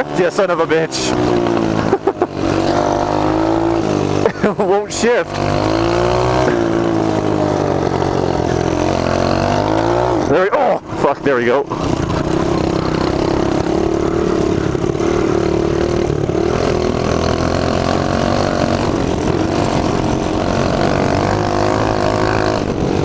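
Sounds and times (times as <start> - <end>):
mini bike engine running: 0.0 - 23.0.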